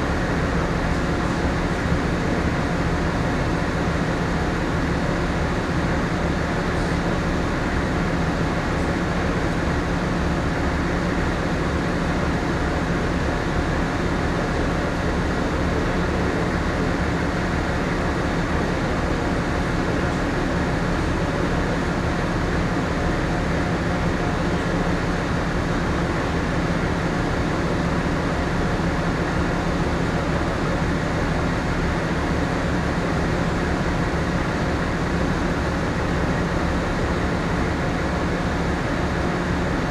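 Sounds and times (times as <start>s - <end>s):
ship machinery hum: 0.0s - 39.9s.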